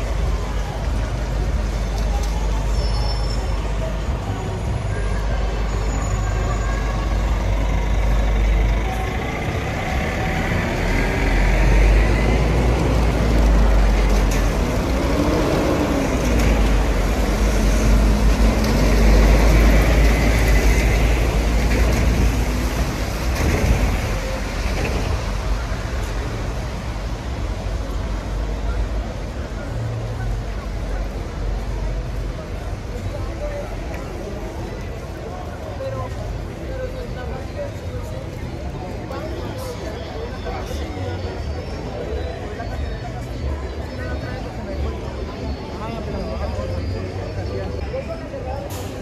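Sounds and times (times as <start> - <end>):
buses on wet street: 0.0 - 49.0
low traffic rumble: 0.0 - 49.0.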